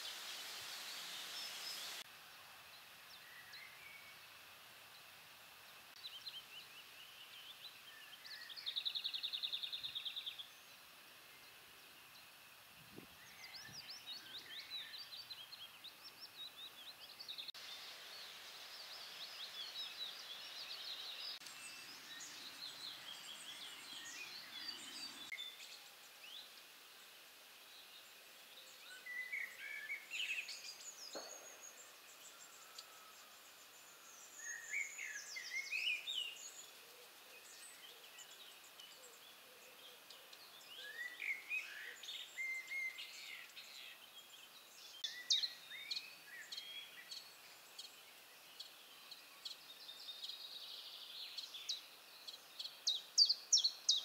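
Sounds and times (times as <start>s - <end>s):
faint background hiss: 0.0s - 54.0s
songbirds chirping: 0.0s - 54.0s.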